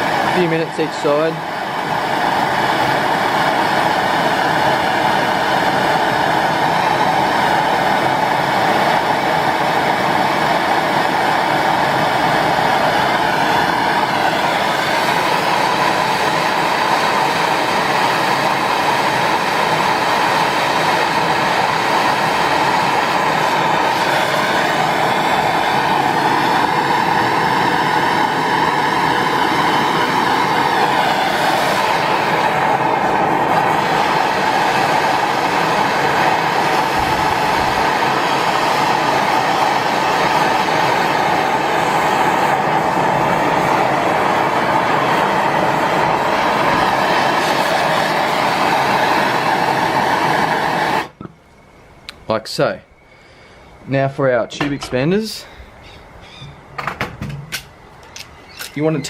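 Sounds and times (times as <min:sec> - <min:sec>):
gas torch flame burning: 0:00.0 - 0:59.0.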